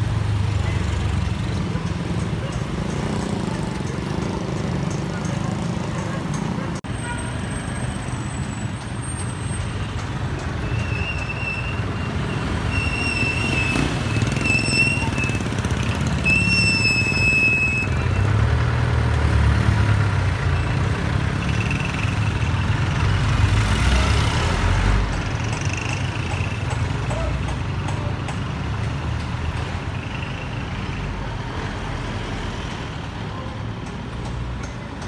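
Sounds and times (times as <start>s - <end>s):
vehicle engines passing: 0.0s - 35.0s.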